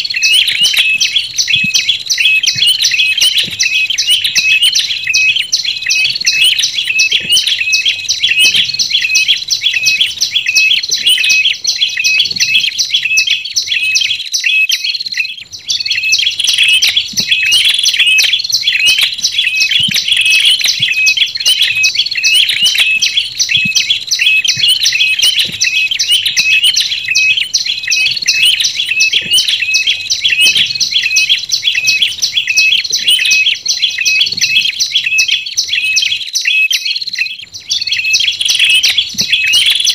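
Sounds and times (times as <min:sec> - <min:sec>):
tailorbird chirps: 0:00.0 - 0:39.9.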